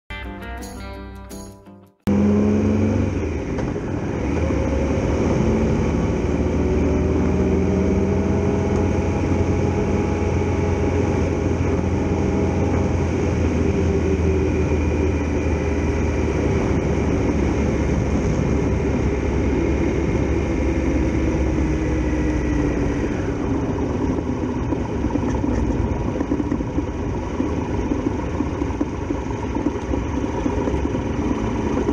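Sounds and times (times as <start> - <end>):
motorcycle engine running: 2.1 - 31.9.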